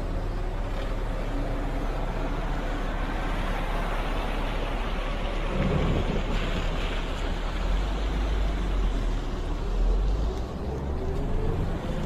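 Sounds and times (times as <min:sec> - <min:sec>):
vehicle rumble and road noise: 0:00.0 - 0:12.0.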